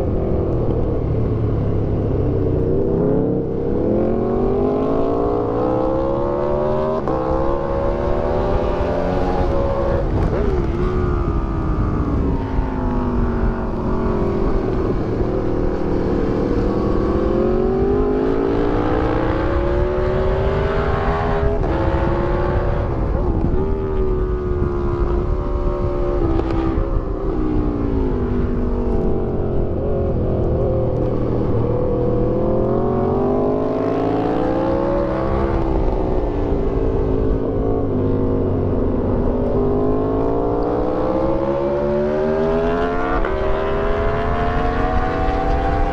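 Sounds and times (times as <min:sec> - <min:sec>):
motorcycle engine revving: 0:00.0 - 0:45.9
wind rush: 0:00.0 - 0:45.9.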